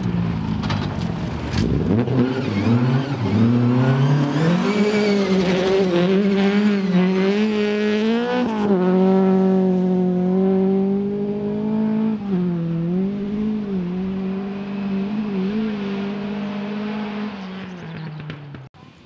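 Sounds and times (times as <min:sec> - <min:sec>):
rally car engine revving: 0:00.6 - 0:18.7.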